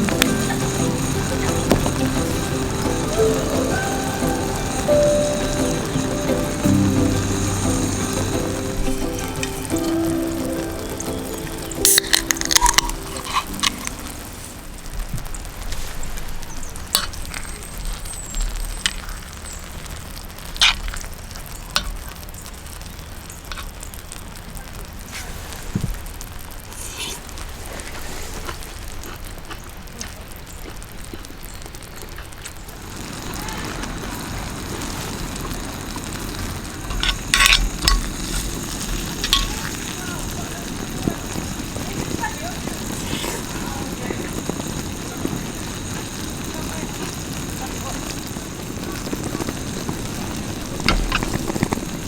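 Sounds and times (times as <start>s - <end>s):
food sizzling in a pan: 0.0s - 29.5s, 30.2s - 52.0s.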